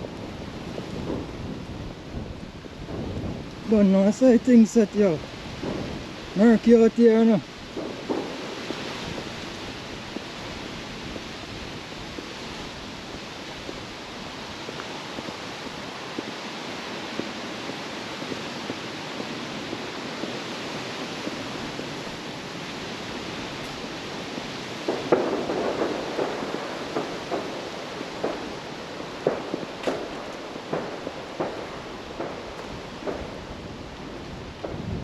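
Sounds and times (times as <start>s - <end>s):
distant fireworks popping: 0.0s - 35.0s
steady outdoor rush: 0.0s - 35.0s.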